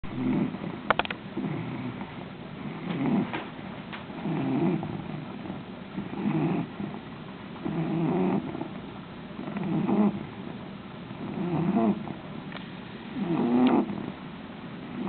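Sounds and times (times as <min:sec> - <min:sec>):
dog snoring: 0:00.0 - 0:08.8, 0:09.4 - 0:12.3, 0:13.1 - 0:14.2.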